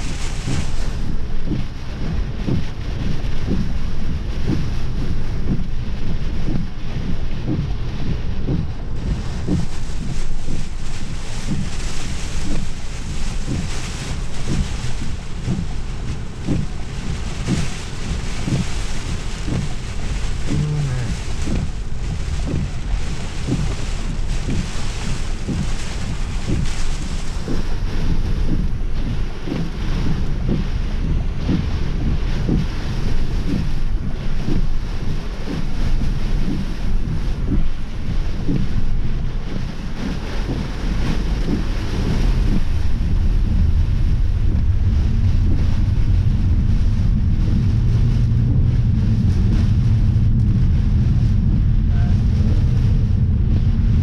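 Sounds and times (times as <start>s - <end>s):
steady hiss: 0.0s - 54.0s
storm wind buffeting microphone: 0.0s - 54.0s.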